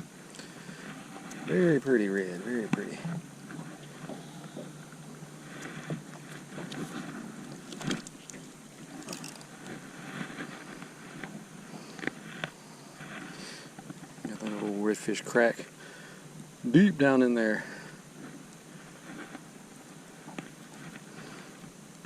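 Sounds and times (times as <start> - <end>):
faint water noise: 0.0 - 22.0.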